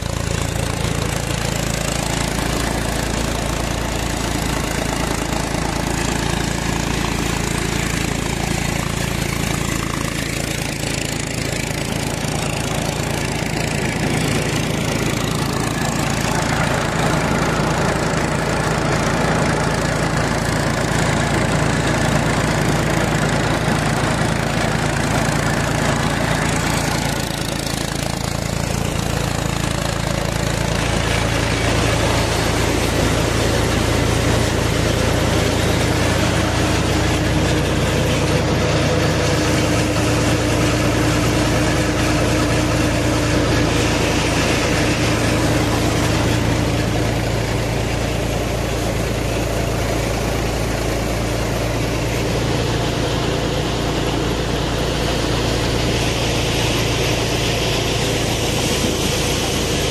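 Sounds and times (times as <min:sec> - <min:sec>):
thresher rushing noise: 0:00.0 - 0:59.9
tractor diesel engine running: 0:00.0 - 0:59.9.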